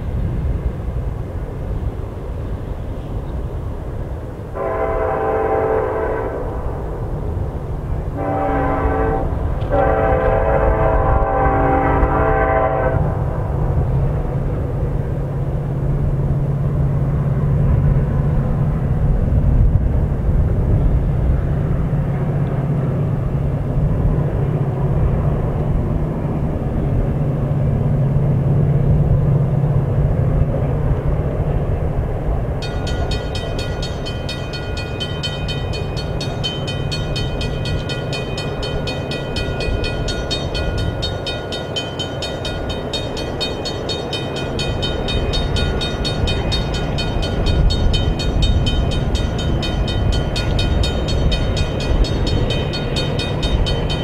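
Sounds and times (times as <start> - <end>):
diesel train rumbling past: 0.0 - 54.0.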